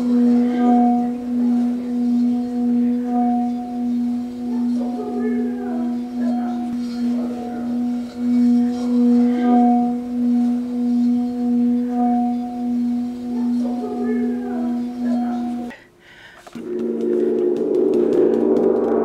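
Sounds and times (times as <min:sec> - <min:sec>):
singing bowl humming: 0:00.0 - 0:16.0, 0:16.6 - 0:19.0.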